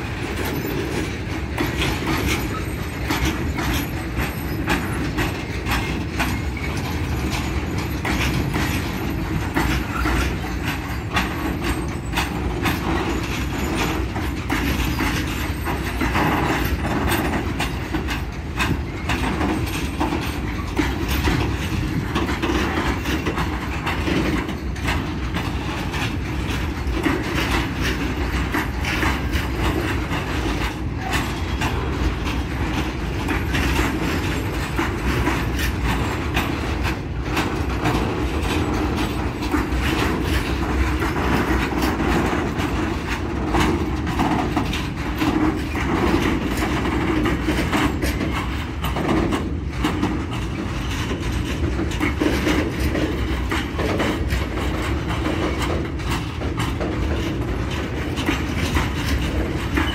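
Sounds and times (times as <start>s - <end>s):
freight train wheels rumbling on rail: 0.0s - 59.9s
train clicks and clacks: 0.0s - 59.9s.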